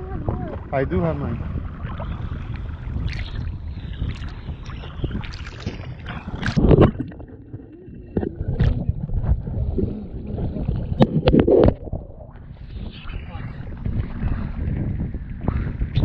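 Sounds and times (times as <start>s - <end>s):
sea water sloshing and splashing: 0.0s - 16.0s
wind buffeting microphone: 0.0s - 16.0s.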